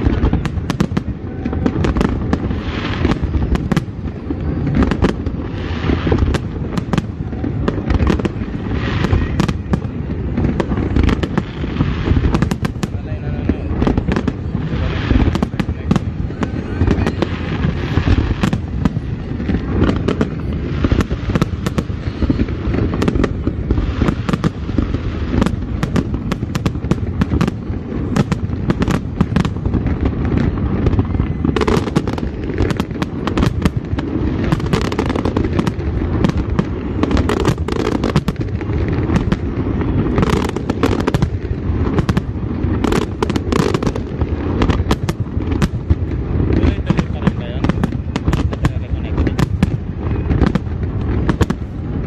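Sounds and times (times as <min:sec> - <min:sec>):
fireworks bursting and crackling: 0:00.0 - 0:52.0
steady low rumble: 0:00.0 - 0:52.0.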